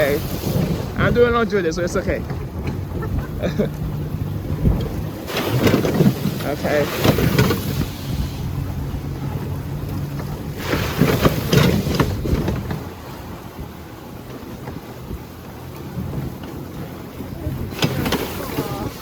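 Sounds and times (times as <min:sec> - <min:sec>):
cart wheels rumbling and rattling: 0:00.0 - 0:19.0
wind on microphone: 0:00.0 - 0:19.0.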